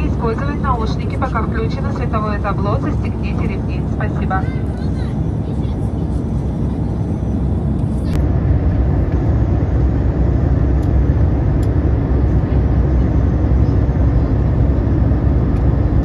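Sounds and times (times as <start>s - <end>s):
jet engine cabin rumble: 0.0s - 16.0s.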